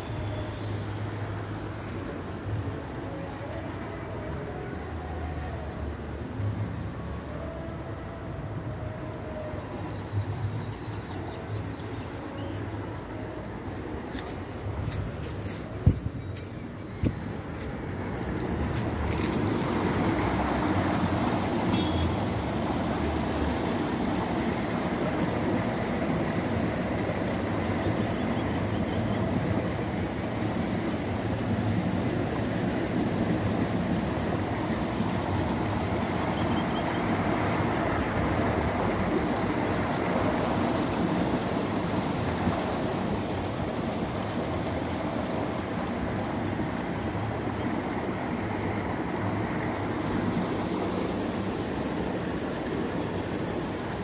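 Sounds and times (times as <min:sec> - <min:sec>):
water flowing in channel: 0:00.0 - 0:54.0.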